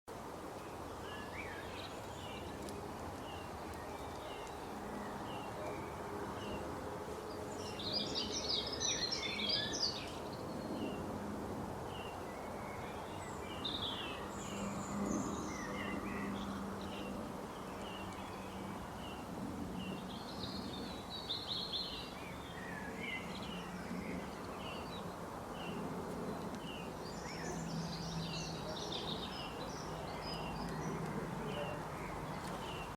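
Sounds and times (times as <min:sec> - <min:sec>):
small birds chirping: 0:00.6 - 0:11.1, 0:11.8 - 0:32.9.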